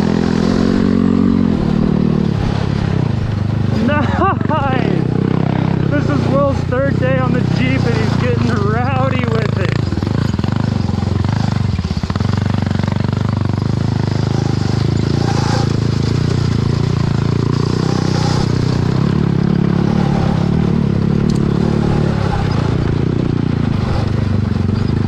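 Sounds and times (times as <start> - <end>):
dirt bike engine revving high: 0.0 - 25.0.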